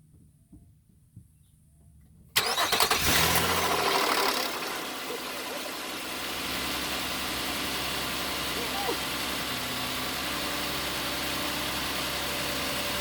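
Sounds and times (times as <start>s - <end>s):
car engine starting and idling: 2.3s - 13.0s.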